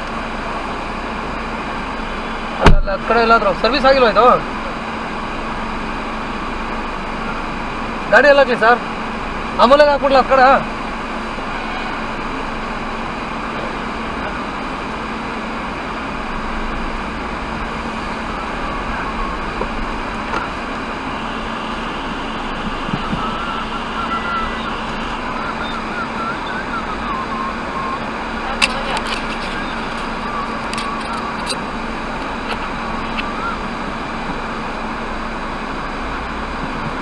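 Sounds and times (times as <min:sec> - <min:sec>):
car cabin hum and hiss: 0:00.0 - 0:37.0.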